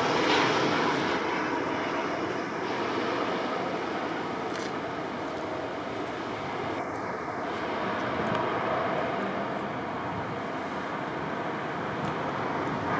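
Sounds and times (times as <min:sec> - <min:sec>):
jet engines rushing: 0:00.0 - 0:12.9.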